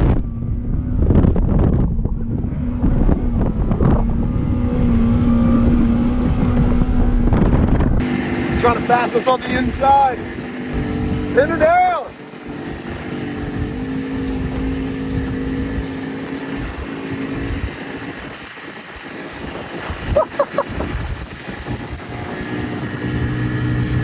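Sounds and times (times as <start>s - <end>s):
hull rushing over choppy water: 0.0s - 24.0s
outboard motor at full throttle: 0.0s - 24.0s
wind buffeting microphone: 0.0s - 24.0s.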